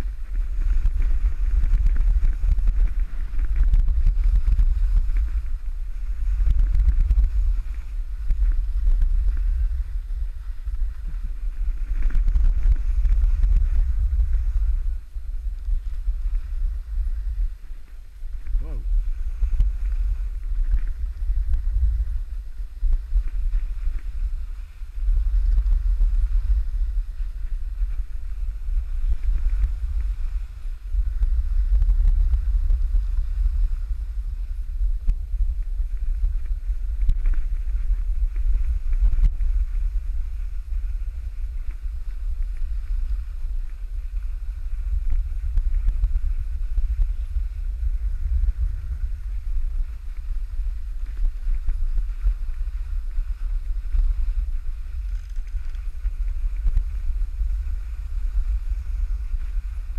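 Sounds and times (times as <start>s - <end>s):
hiss of sliding on snow: 0.0s - 59.9s
wind buffeting microphone: 0.0s - 59.9s.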